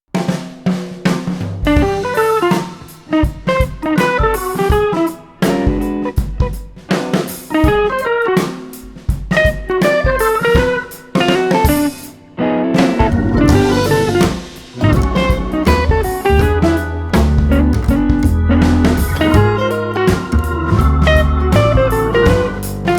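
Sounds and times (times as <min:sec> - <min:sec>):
bass and drum kit: 0:00.1 - 0:12.1, 0:12.8 - 0:22.9
electric guitar melody: 0:01.8 - 0:08.7, 0:09.6 - 0:22.9.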